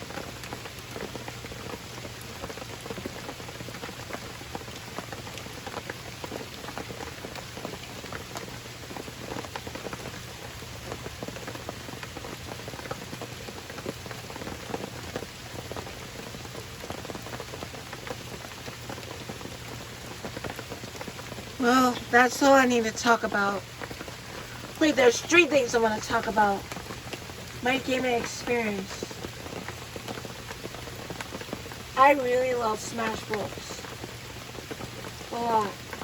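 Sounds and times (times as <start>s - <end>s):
raindrops ticking close by: 0.0s - 36.0s
steady rain falling: 0.0s - 36.0s.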